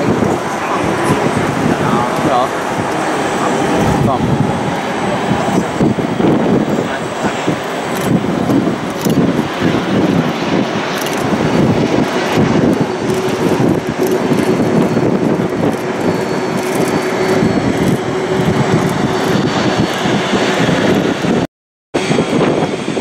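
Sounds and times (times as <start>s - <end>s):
jet airliner engines rushing: 0.0s - 23.0s.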